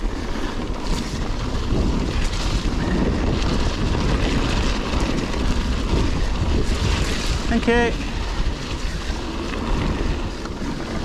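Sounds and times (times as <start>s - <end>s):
bike tyres on gravel: 0.0s - 11.0s
wind buffeting microphone: 0.0s - 11.0s.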